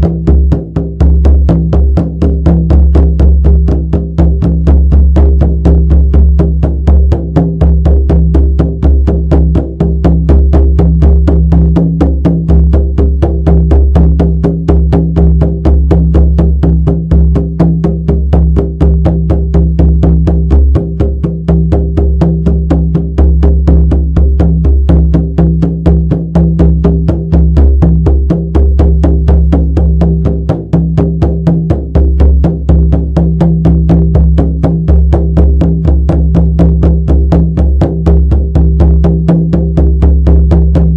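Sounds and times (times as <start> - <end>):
frame drum beating: 0.0 - 40.9.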